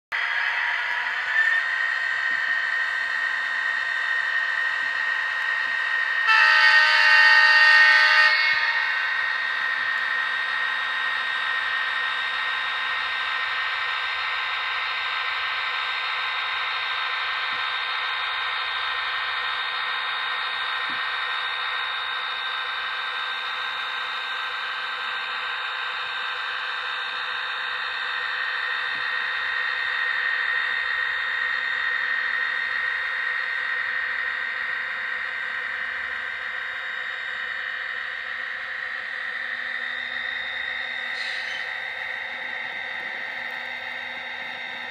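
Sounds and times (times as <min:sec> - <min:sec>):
high whine: 0:00.1 - 0:44.9
model train motor whir: 0:00.2 - 0:44.9.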